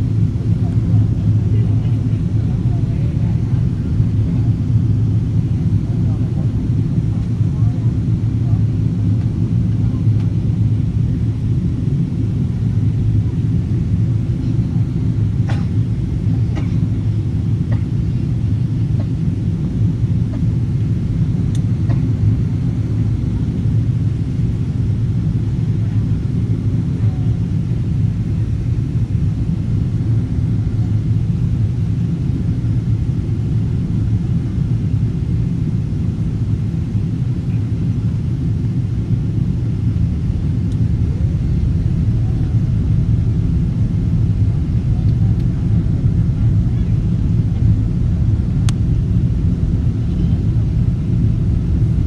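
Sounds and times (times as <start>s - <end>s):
airplane engine and airflow rumble: 0.0s - 52.0s.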